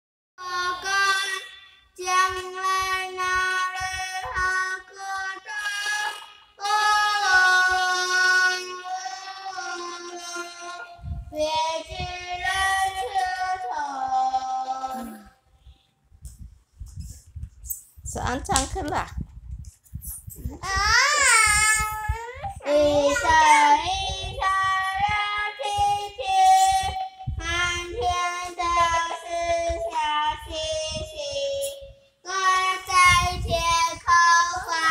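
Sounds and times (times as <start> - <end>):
girl singing into microphone: 0.4 - 15.7, 20.6 - 34.9.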